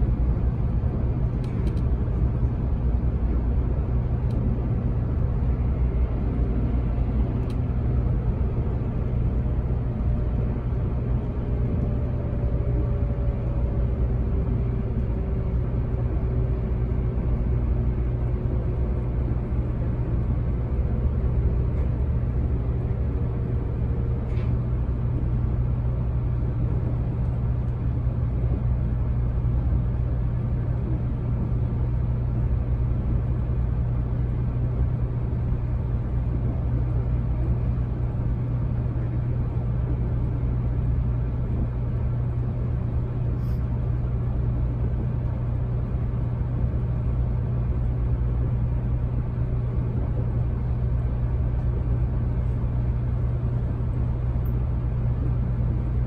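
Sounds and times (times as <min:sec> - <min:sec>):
train rumbling at speed: 0:00.0 - 0:56.0.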